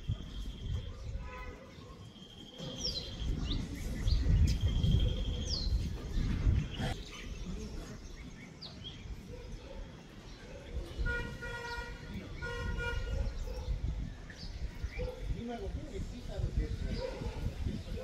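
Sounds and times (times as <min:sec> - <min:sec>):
wind rumble on microphone: 0:00.0 - 0:01.7, 0:02.6 - 0:18.0
songbirds whistling: 0:00.0 - 0:15.7.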